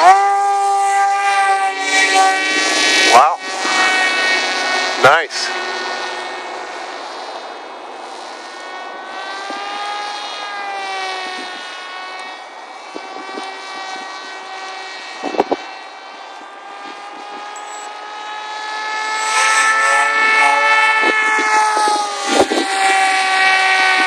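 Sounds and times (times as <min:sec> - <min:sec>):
electric motor and propeller whine: 0:00.0 - 0:24.0.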